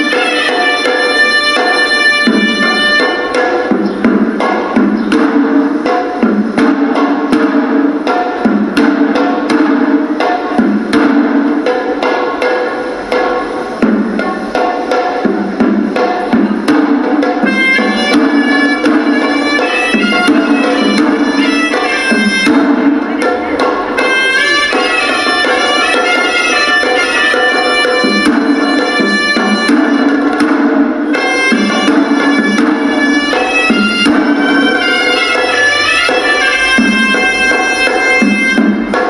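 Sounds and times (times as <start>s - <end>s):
drums beating: 0.0s - 39.0s
shawm playing ornamented melody: 0.0s - 39.0s.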